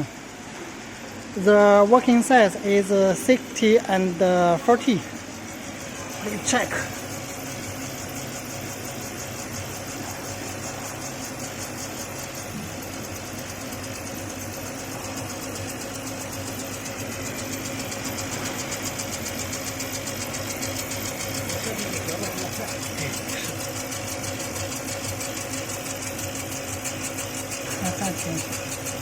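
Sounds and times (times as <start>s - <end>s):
laser engraver mechanical hum: 0.0s - 29.0s.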